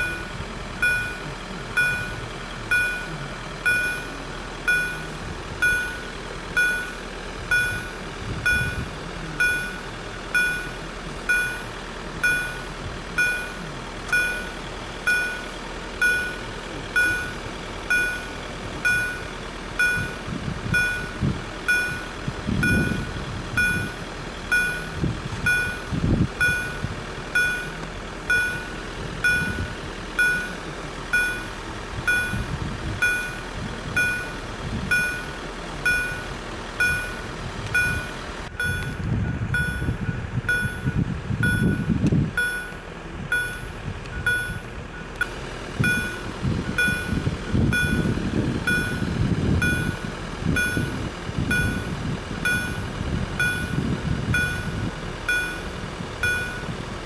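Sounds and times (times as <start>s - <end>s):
level crossing warning beeps: 0.0s - 56.9s
low rumbles: 0.0s - 57.0s.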